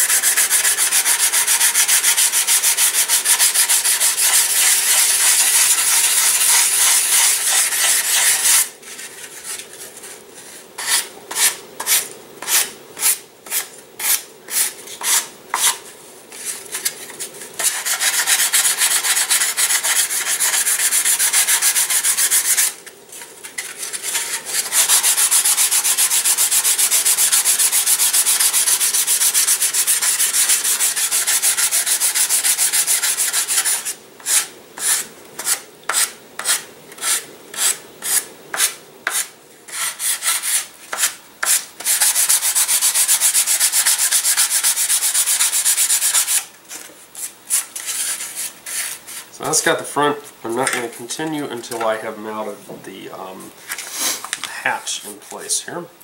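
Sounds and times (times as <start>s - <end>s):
sandpaper rubbing wood: 0.0s - 46.5s, 47.2s - 49.7s.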